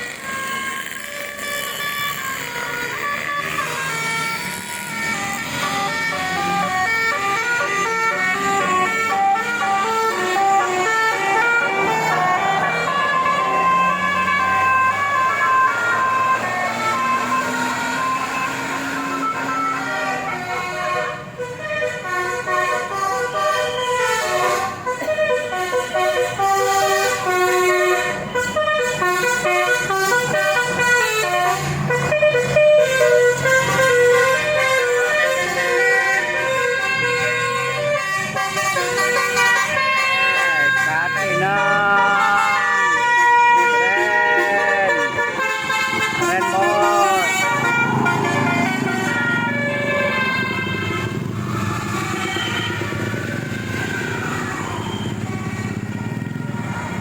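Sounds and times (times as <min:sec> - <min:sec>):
musical vehicle horn tune: 0:00.0 - 0:57.0.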